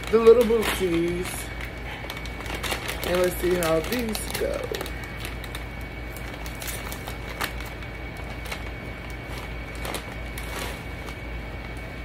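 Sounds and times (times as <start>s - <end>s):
chip bag crinkling: 0.0s - 12.0s
steady low hum: 0.0s - 12.0s.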